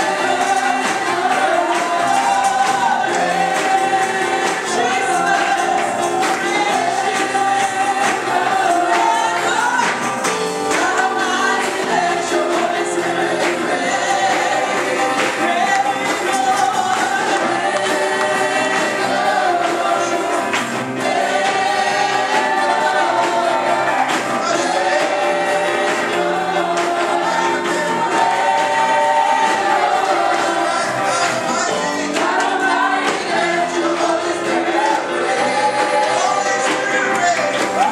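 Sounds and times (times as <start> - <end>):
choir singing gospel: 0.0 - 37.9
instrumental accompaniment: 0.0 - 37.9.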